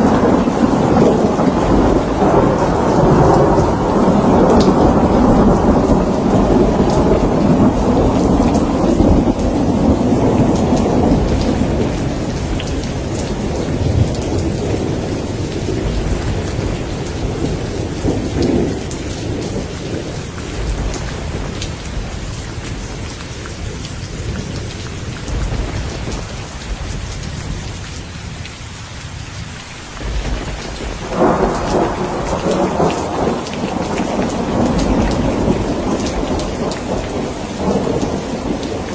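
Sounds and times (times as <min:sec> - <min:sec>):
rolling thunder: 0:00.0 - 0:28.5, 0:29.9 - 0:38.9
steady rain patter: 0:00.0 - 0:38.9.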